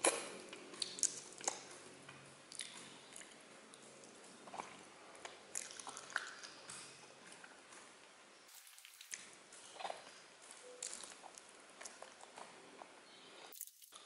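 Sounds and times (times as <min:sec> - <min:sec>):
person chewing: 0:00.0 - 0:01.9, 0:02.5 - 0:07.9, 0:08.5 - 0:14.0.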